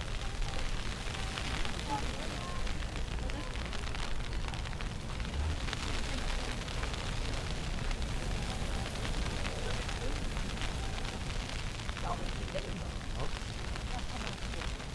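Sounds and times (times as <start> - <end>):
constant crackle: 0.0 - 14.9
wind rumble on microphone: 0.0 - 14.9.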